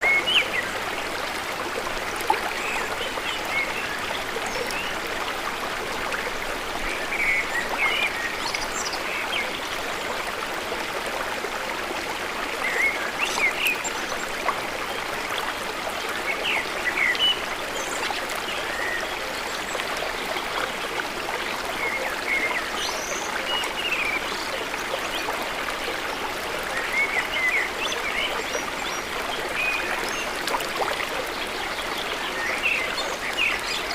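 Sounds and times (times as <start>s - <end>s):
running water flowing: 0.0s - 33.9s.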